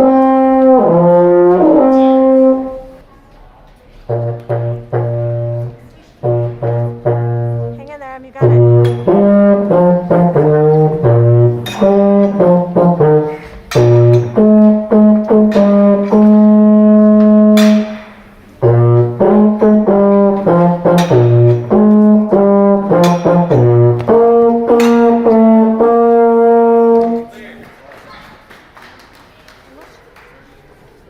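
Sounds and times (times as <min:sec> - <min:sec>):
baritone horn music: 0:00.0 - 0:03.0, 0:04.0 - 0:27.4.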